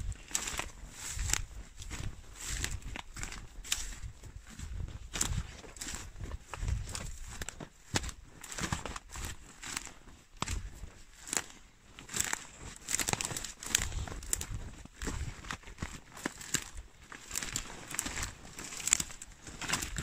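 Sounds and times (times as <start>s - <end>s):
footsteps crunching dry leaves: 0.0s - 20.0s.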